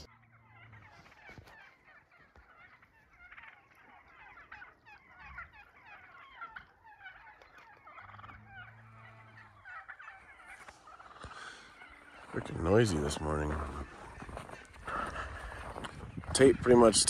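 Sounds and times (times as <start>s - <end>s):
turkeys gobbling: 0.0s - 17.0s.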